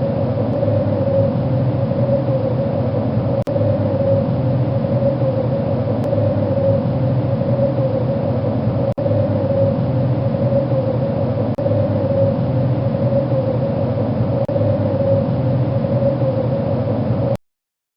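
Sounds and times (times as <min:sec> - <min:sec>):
wind rushing and whistling: 0:00.0 - 0:17.3.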